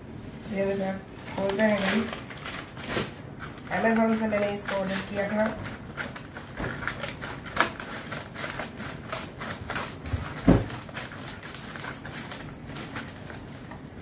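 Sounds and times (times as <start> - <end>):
packaging clicks and crinkles: 1.2 - 14.0.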